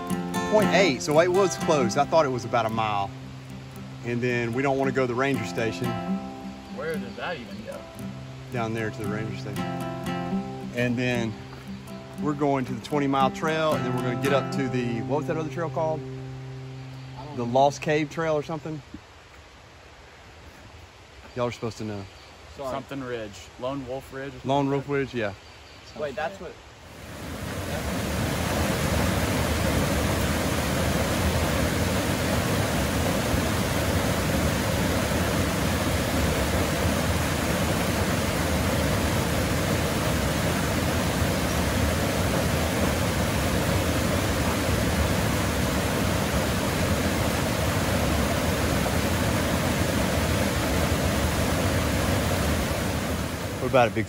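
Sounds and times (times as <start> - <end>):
waterfall rushing over rocks: 0.0 - 21.9, 26.0 - 54.0.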